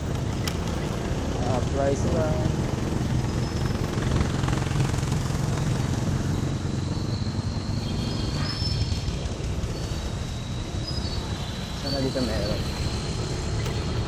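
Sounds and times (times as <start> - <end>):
scooter engine running: 0.0 - 14.0
wind and road noise: 0.0 - 14.0.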